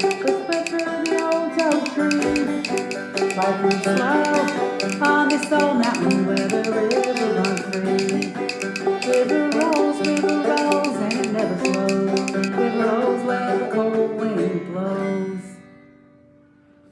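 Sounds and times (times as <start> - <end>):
clawhammer banjo playing: 0.0 - 15.0.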